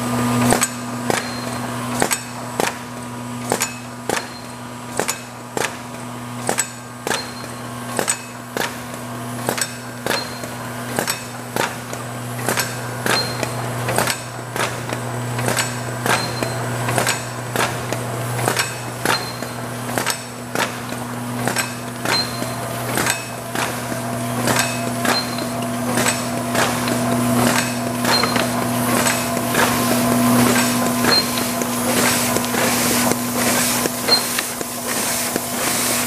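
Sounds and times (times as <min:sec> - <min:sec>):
machine low hum: 0:00.0 - 0:36.0
sharp mechanical clacks: 0:00.3 - 0:36.0.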